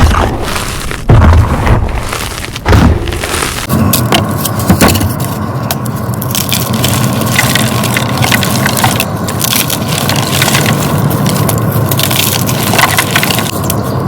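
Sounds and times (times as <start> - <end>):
chalk being crushed: 0.0 - 13.8
steady low hum: 0.0 - 14.0.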